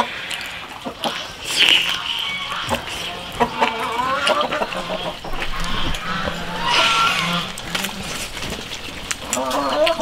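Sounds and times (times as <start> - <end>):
chicken clucking: 0.0 - 10.0.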